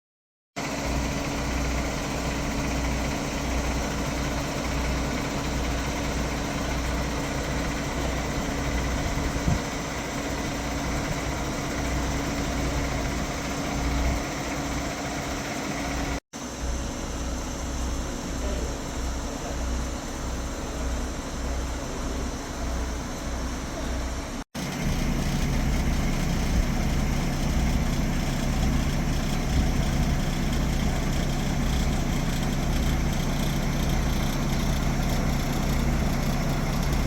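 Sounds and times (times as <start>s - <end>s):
diesel engine idling: 0.6s - 37.0s.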